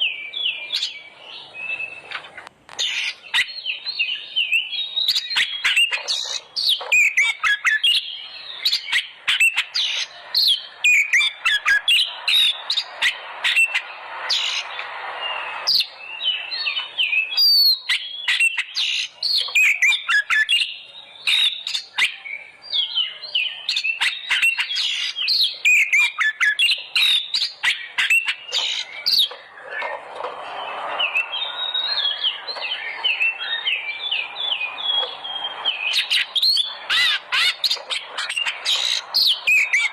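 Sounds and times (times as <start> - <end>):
bird singing whistles and chirps: 0.0 - 29.9, 30.5 - 39.9.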